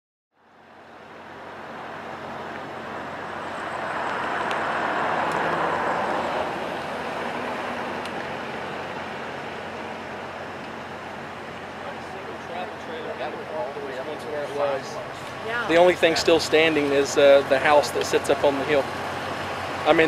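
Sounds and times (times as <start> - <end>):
road traffic rushing past: 0.4 - 20.0
vehicle passing close: 1.0 - 20.0.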